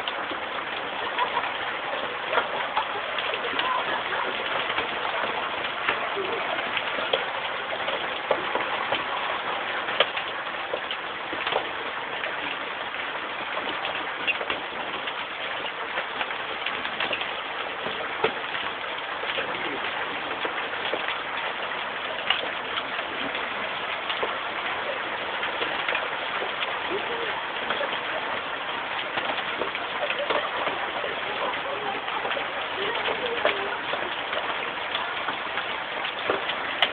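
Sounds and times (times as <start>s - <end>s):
hailstones striking hard surfaces: 0.0s - 36.9s
heavy rain: 0.0s - 36.9s.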